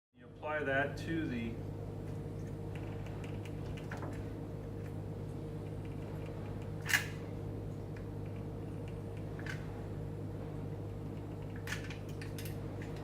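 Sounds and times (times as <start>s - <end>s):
low room hum: 0.2s - 13.0s.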